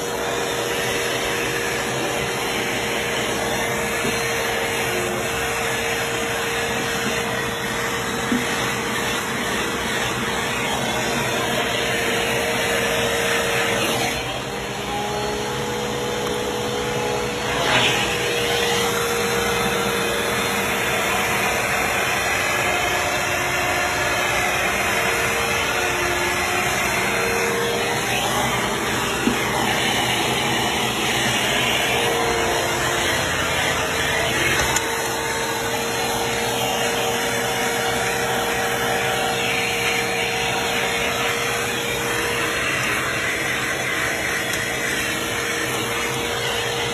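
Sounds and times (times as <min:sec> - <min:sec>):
vacuum cleaner running on carpet: 0:00.0 - 0:46.9.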